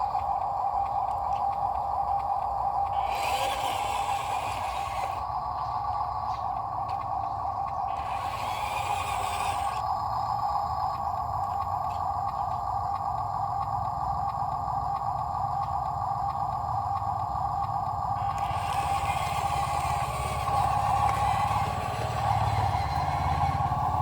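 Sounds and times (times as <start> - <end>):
faint clicking: 0.0 - 24.0
truck engine rumbling: 0.0 - 24.0.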